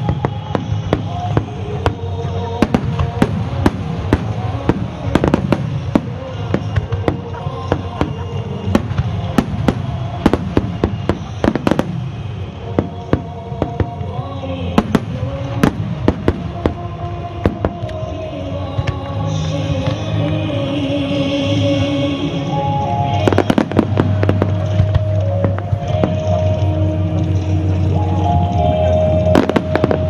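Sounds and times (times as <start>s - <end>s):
fireworks bangs and crackles: 0.0s - 30.0s
music with held notes: 0.0s - 30.0s.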